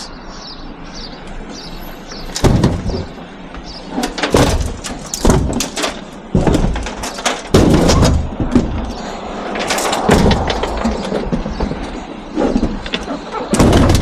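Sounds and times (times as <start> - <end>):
scrap metal bangs and clatters: 2.2 - 14.0
heavy knocks: 2.3 - 14.0.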